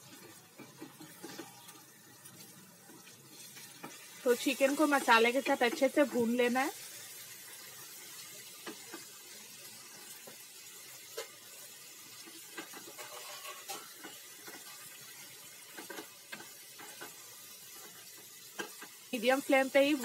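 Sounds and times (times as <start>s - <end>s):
chicken sizzling in a pot: 0.0s - 20.0s.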